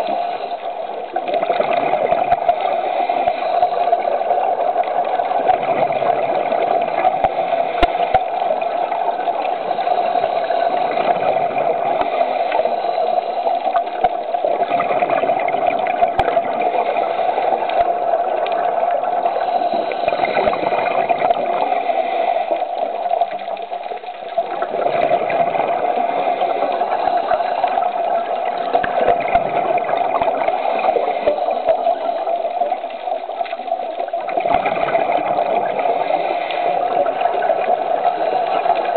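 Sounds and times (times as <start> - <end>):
muffled underwater rushing water: 0.0 - 38.9.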